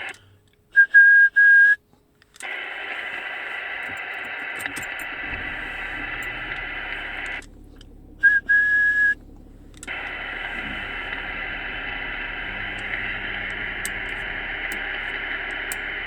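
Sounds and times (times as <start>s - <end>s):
radio static hiss: 0.0s - 0.3s, 2.4s - 9.2s, 9.8s - 16.0s
radio whistle tone: 0.8s - 1.8s, 2.4s - 16.0s.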